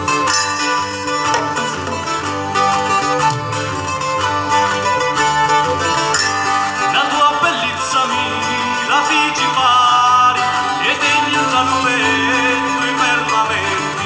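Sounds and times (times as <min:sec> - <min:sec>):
live folk band playing: 0:00.0 - 0:14.0.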